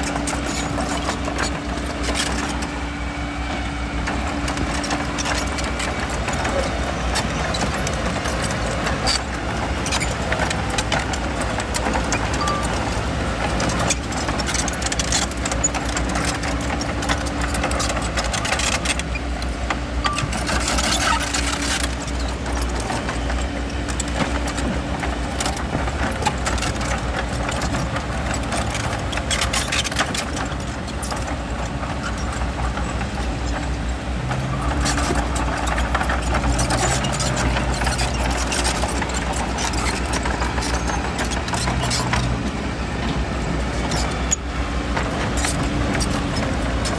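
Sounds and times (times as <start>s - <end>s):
bulldozer diesel engine running: 0.0s - 46.9s
tracks and stone rattling: 0.0s - 46.9s.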